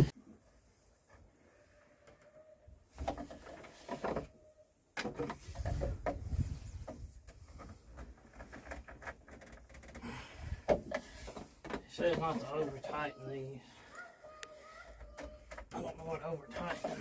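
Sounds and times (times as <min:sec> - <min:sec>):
knocks clunks and scraping: 0:01.0 - 0:17.0.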